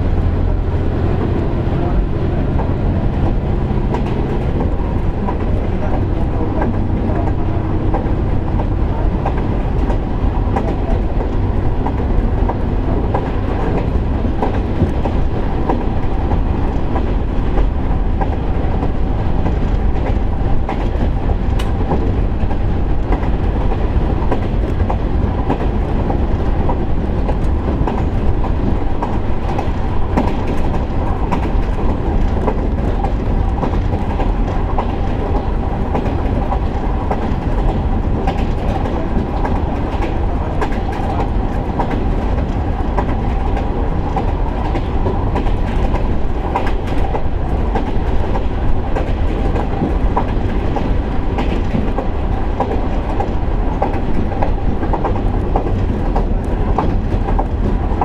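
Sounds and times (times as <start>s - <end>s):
railcar engine and wheels rumbling: 0.0s - 58.0s
wheels clicking over rail joints: 0.1s - 58.0s.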